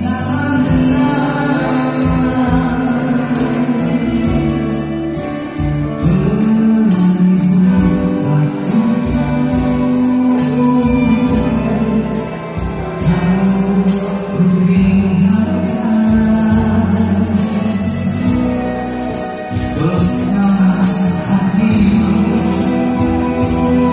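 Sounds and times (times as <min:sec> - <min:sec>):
live band playing: 0:00.0 - 0:23.9
person singing: 0:00.0 - 0:23.9.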